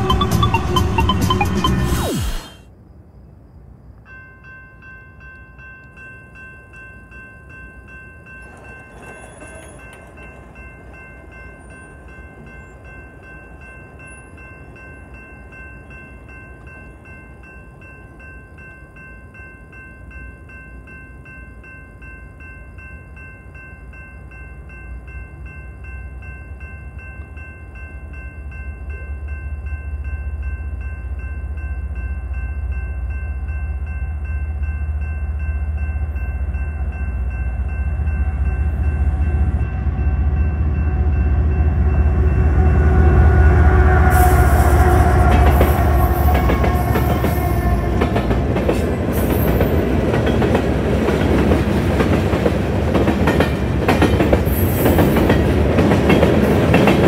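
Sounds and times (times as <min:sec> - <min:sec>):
crossing bell ringing: 0:00.0 - 0:01.8, 0:04.1 - 0:57.0
freight train rumble: 0:04.1 - 0:57.0.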